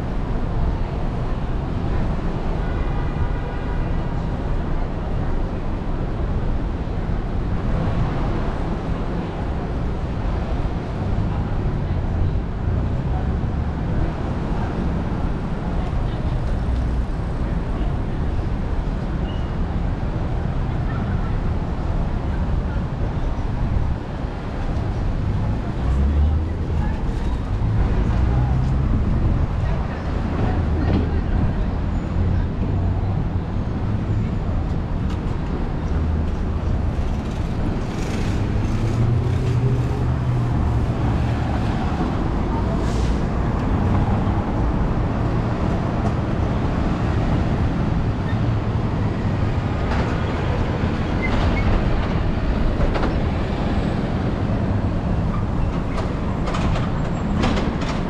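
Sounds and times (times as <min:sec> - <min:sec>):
traffic passing: 0:00.0 - 0:58.0
voices of passers-by: 0:00.0 - 0:58.0.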